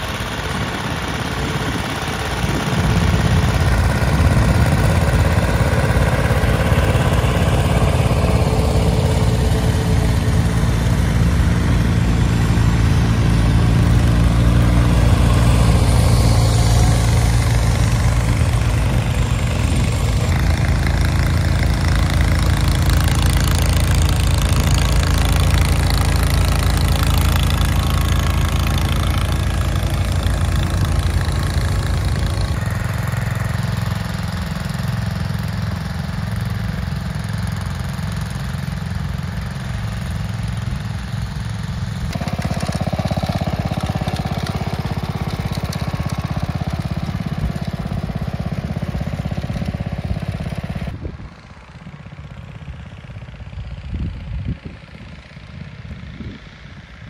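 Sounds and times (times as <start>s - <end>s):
garden tractor engine running: 0.0s - 57.0s.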